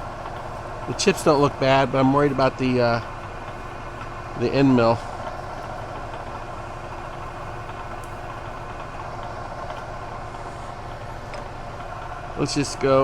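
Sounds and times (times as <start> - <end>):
milling machine cutting metal: 0.0 - 13.0.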